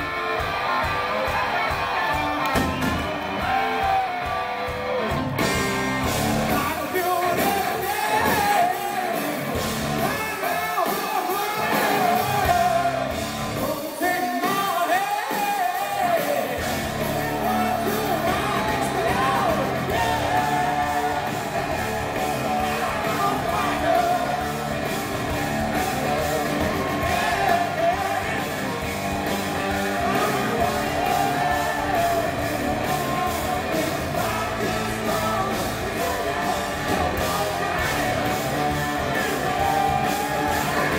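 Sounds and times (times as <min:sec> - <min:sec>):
bass guitar: 0:00.0 - 0:10.4, 0:11.6 - 0:13.7, 0:16.3 - 0:40.9
electric guitars: 0:00.0 - 0:40.9
person singing: 0:06.4 - 0:40.9.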